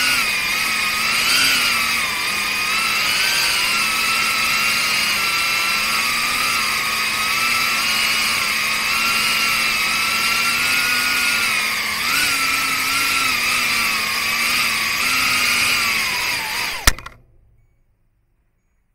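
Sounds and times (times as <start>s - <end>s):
drone motors whining: 0.0s - 17.2s.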